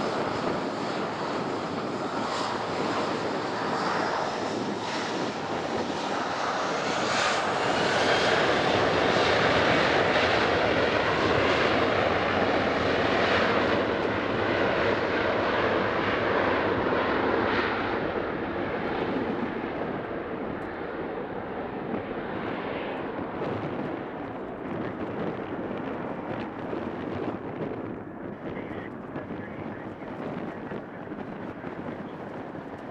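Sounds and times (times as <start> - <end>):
jet engines at takeoff: 0.0 - 32.9.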